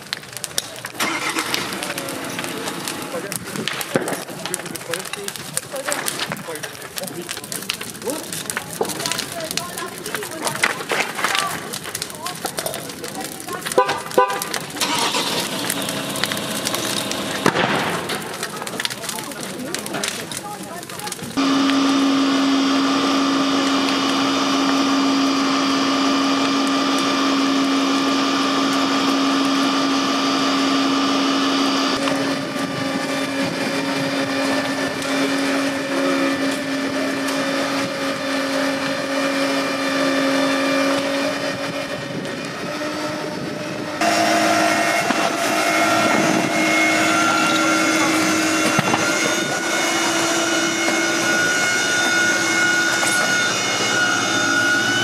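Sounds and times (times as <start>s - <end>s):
fire engine pump humming: 0.0s - 55.0s.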